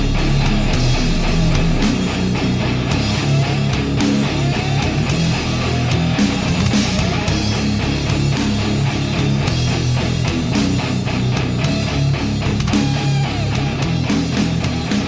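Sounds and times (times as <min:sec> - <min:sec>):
rock song with guitar: 0:00.0 - 0:15.0.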